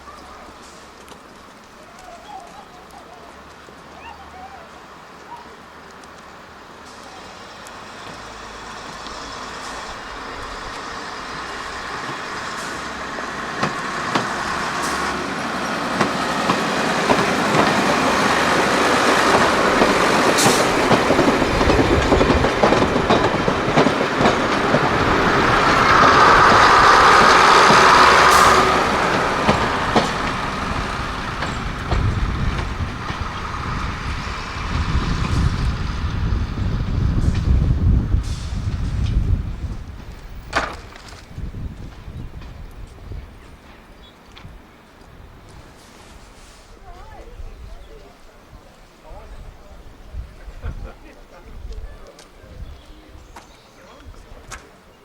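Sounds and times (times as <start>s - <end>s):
train wheels on rails: 0.2s - 3.9s, 6.0s - 54.9s.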